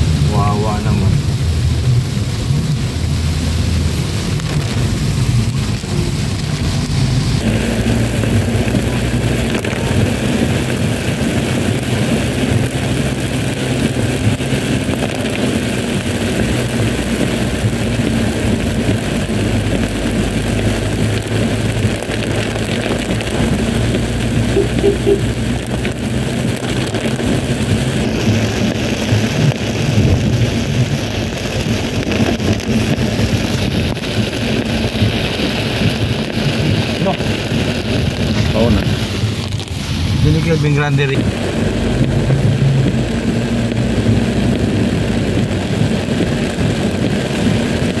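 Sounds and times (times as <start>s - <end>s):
car engine hum: 0.0s - 48.0s
rain beating on windshield: 0.0s - 48.0s
tyre hiss on wet road: 0.1s - 24.4s, 25.3s - 48.0s.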